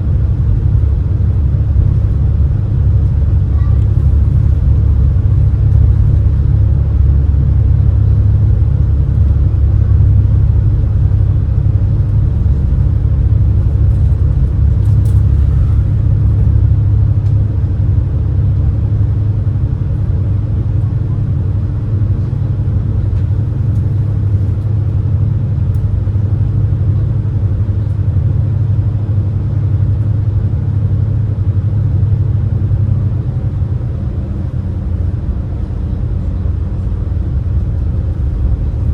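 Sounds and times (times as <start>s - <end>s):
boat engines rumbling: 0.0s - 38.9s.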